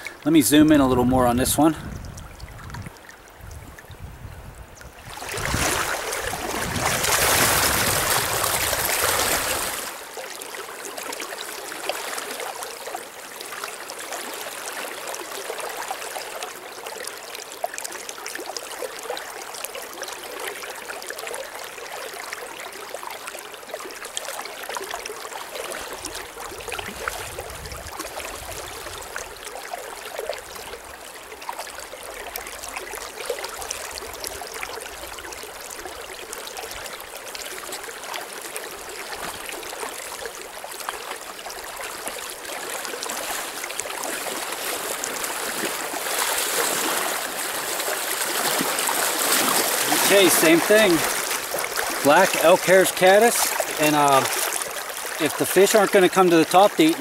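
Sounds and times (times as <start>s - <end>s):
river water rushing: 5.0s - 57.0s.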